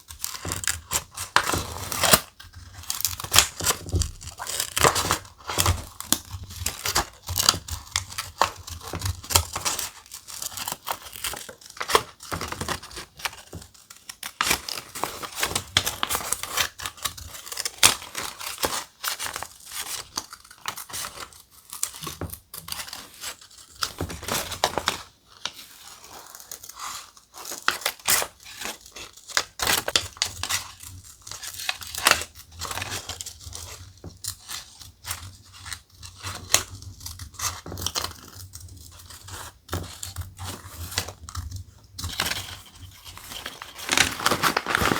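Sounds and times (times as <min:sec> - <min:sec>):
thick paper tearing and crinkling: 0:00.1 - 0:44.9.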